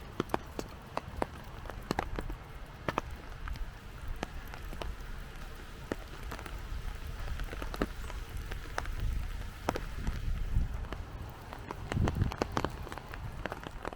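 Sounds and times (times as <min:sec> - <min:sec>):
rain falling: 0:00.0 - 0:13.9
raindrops tapping near microphone: 0:00.0 - 0:13.9.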